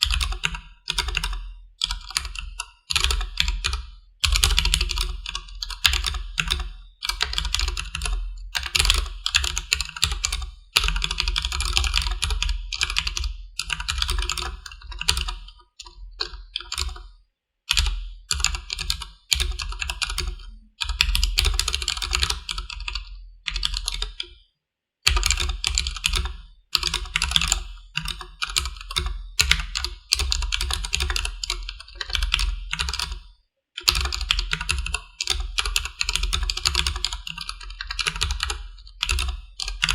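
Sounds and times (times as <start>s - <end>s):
mechanical keyboard typing: 0.0s - 17.0s, 17.7s - 24.3s, 25.1s - 33.2s, 33.8s - 39.9s.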